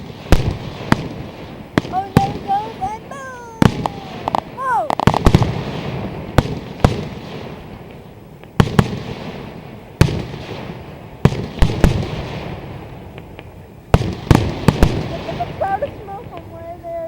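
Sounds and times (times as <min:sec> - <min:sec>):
fireworks booming: 0:00.0 - 0:16.6.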